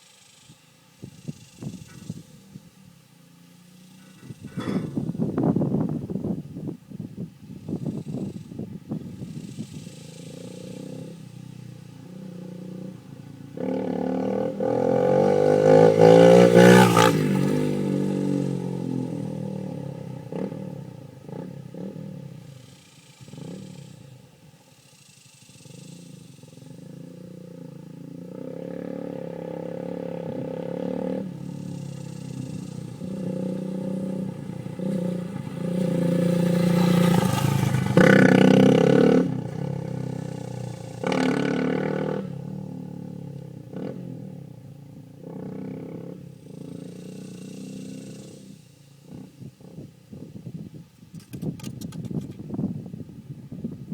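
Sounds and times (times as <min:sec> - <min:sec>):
motorcycle passing by: 0:00.0 - 0:53.9.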